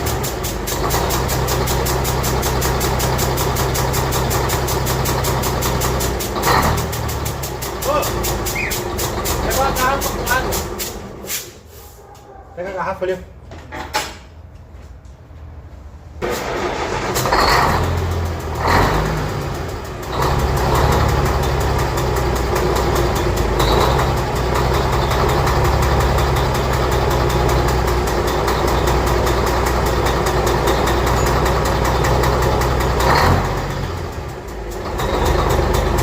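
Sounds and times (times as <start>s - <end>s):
vehicle engine starting and idling: 0.0s - 11.6s, 16.2s - 36.0s.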